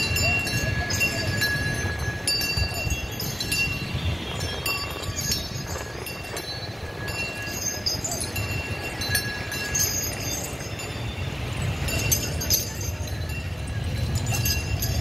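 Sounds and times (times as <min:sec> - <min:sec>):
metal chains clinking: 0:00.0 - 0:15.0
street traffic rumble: 0:00.0 - 0:15.0.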